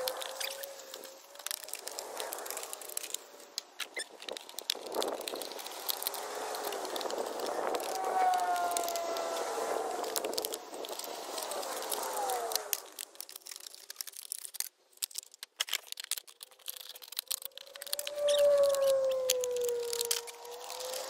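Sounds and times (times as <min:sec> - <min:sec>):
plastic bottles crackling: 0:00.0 - 0:21.0.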